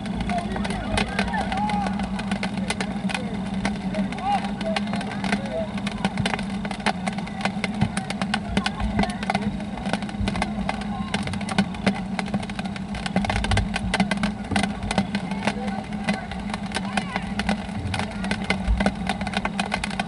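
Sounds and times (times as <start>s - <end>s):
raindrops tapping: 0.0s - 20.0s
steady low hum: 0.0s - 20.0s.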